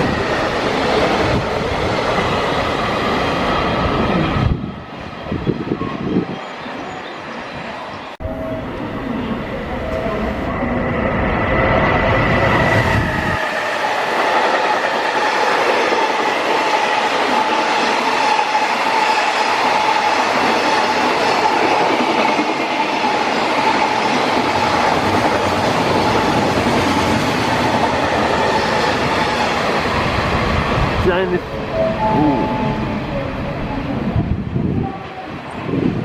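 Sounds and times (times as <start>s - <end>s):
train wheels rumbling on rail: 0.0s - 7.4s, 8.6s - 36.0s.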